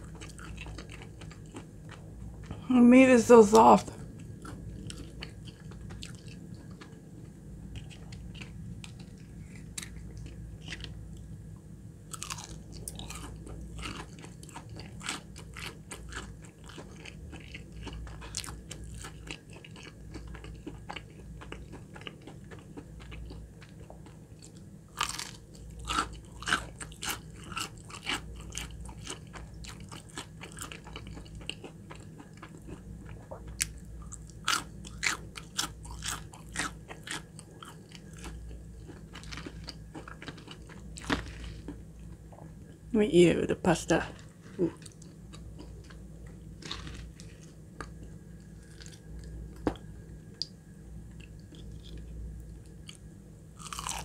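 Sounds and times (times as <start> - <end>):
crunchy chewing: 0.0 - 2.6, 4.0 - 11.3, 12.1 - 42.6, 44.2 - 54.0.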